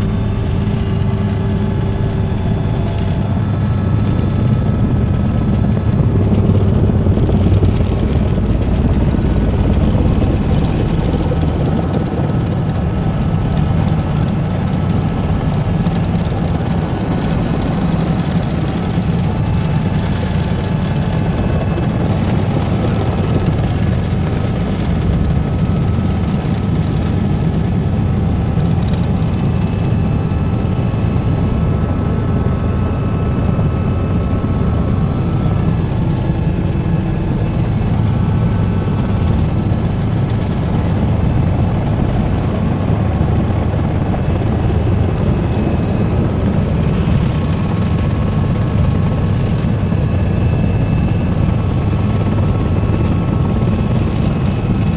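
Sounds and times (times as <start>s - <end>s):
faint high whine: 0.0s - 54.9s
helicopter engine and rotors: 0.0s - 54.9s.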